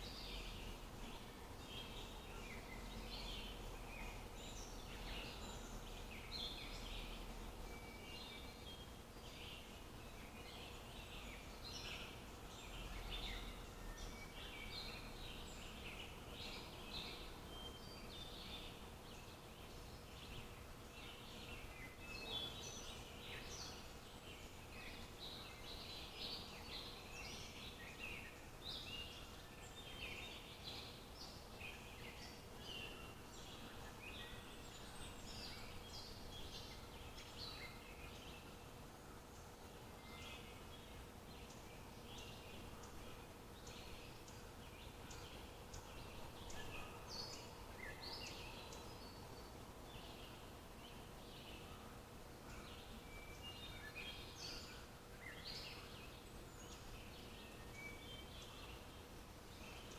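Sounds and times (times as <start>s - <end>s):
faint steady hum: 0.0s - 59.9s
songbirds chirping and twittering: 0.0s - 59.9s.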